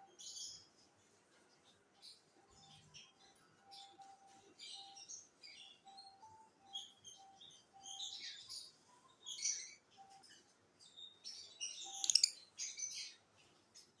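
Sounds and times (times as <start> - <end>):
parrots chirping and chattering: 0.1 - 14.0.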